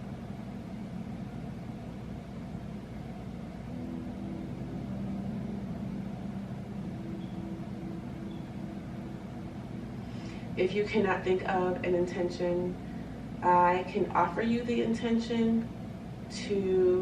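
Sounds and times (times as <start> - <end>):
low hum of held tones: 0.0 - 17.0.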